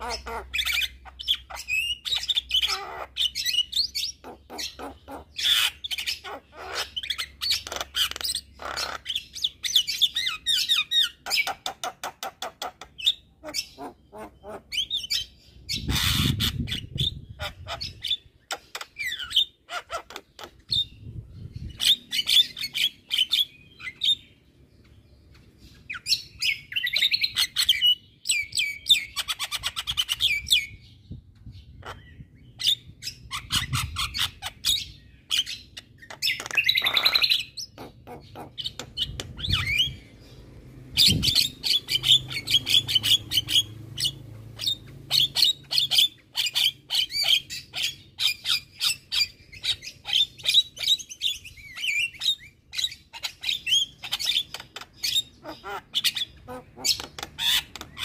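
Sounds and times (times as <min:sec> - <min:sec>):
bird harsh squawking calls: 0:00.0 - 0:24.4, 0:31.7 - 0:58.0
bird chattering song: 0:00.0 - 0:58.0.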